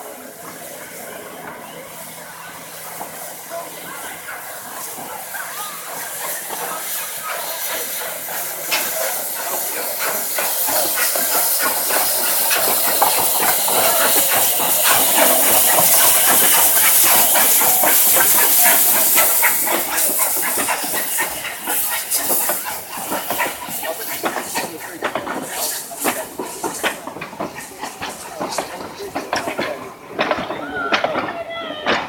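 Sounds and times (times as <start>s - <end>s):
steam locomotive pulling away: 0.0s - 32.0s.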